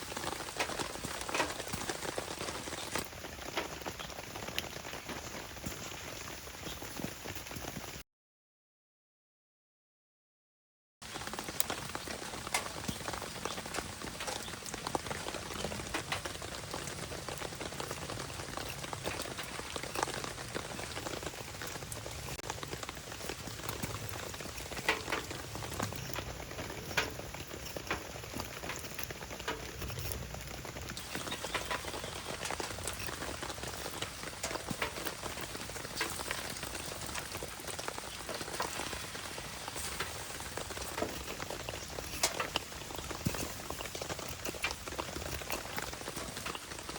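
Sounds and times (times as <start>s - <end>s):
sharp pops and crackles: 0.0s - 7.8s, 11.0s - 46.9s
steady rain: 0.0s - 8.0s, 11.0s - 46.9s.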